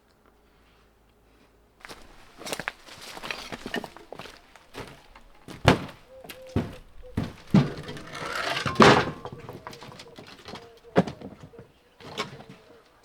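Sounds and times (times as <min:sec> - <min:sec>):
heavy demolition thuds and knocks: 0:02.0 - 0:12.7.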